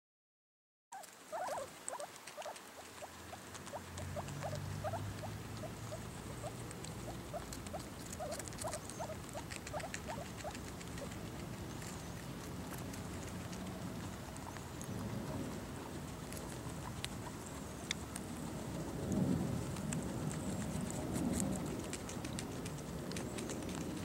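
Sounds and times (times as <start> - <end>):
guinea pig squeaks: 1.0 - 18.7, 19.6 - 24.0
guinea pigs crunching cucumber: 1.0 - 24.0.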